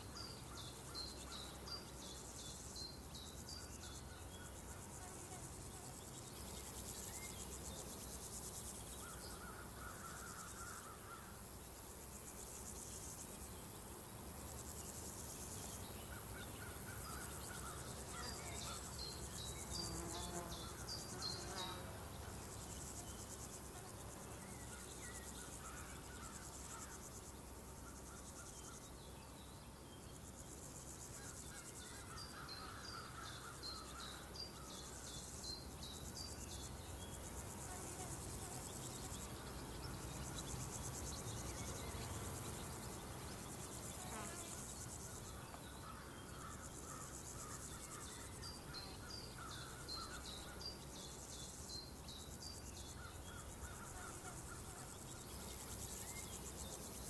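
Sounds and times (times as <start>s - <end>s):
crickets and insects chirping: 0.0s - 57.0s.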